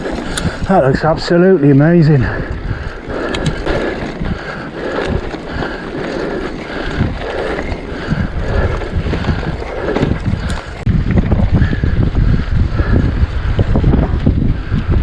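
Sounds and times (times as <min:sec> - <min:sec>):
bike tyres rattling over ground: 0:00.0 - 0:15.0
wind buffeting microphone: 0:00.0 - 0:15.0.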